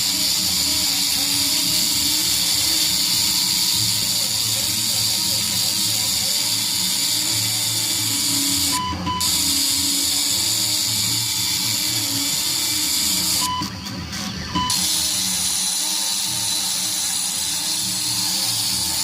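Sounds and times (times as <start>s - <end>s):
engraving tool hiss: 0.0s - 13.8s, 14.6s - 19.0s
stepper motors humming: 0.0s - 19.0s.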